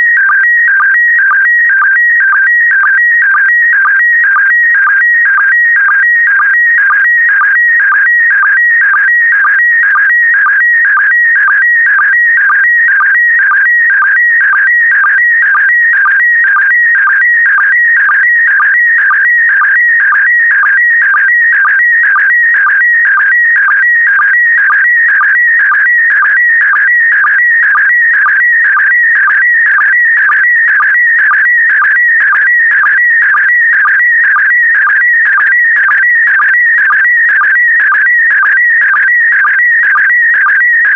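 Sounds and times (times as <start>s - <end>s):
warbling sstv signal tone: 0.0s - 40.9s.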